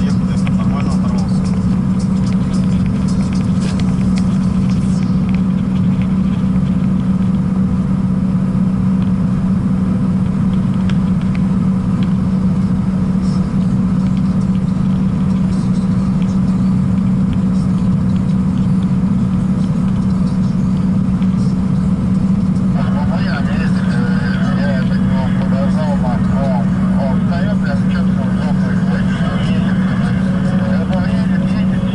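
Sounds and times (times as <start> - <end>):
truck engine drone in cab: 0.0 - 31.9.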